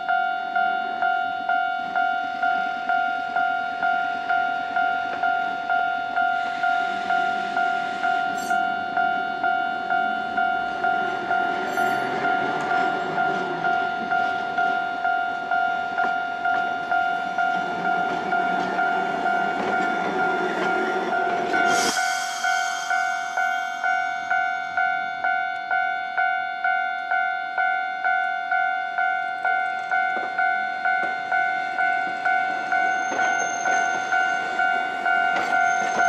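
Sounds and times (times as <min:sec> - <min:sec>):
level crossing bell ringing: 0:00.0 - 0:36.0
tram rumbling on rails: 0:00.0 - 0:36.0.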